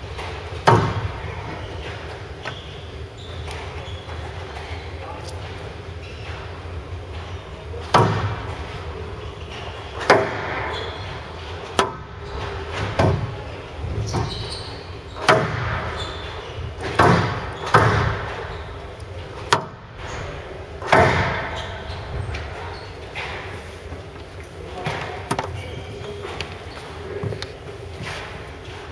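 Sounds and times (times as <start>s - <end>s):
squash ball hitting rackets and walls: 0.0s - 23.9s, 24.8s - 26.4s.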